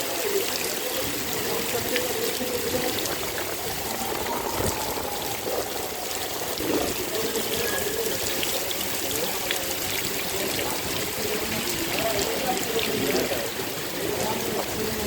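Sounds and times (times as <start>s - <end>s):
steady rain: 0.0s - 15.0s
water pouring and gurgling: 0.0s - 15.0s.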